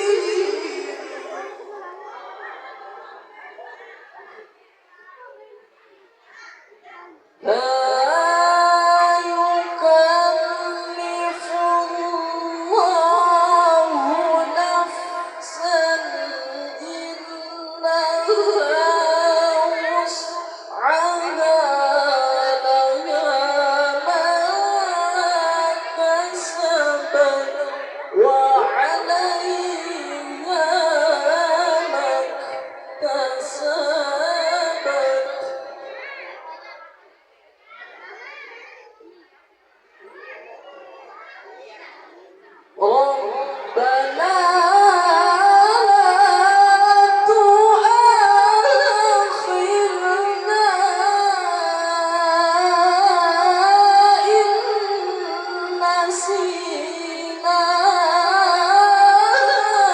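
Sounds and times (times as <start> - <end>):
young person reciting melodically: 0.0 - 59.9.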